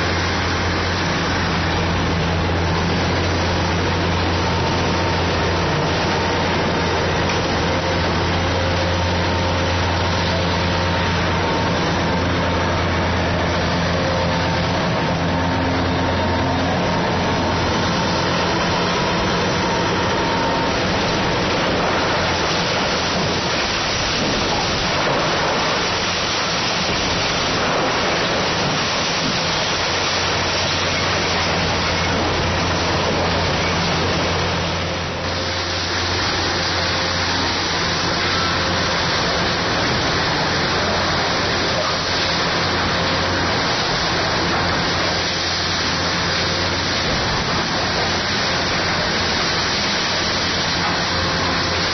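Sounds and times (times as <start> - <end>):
excavator diesel engine humming: 0.0 - 51.9
rough rushing noise: 0.0 - 51.9.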